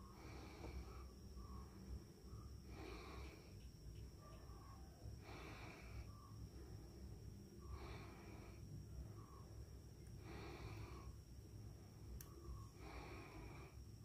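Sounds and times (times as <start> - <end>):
faint breathing: 0.0 - 14.0
thin high whine: 0.0 - 14.0.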